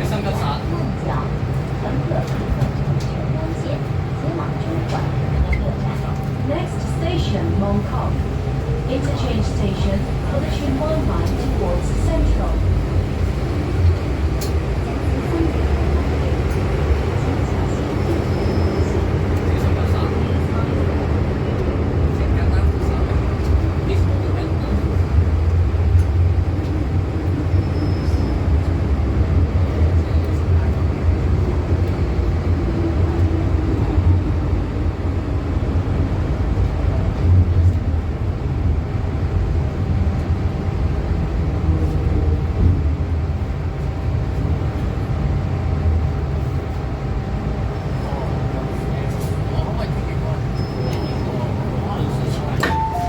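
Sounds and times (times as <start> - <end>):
wheels rumbling on rail: 0.0 - 53.0.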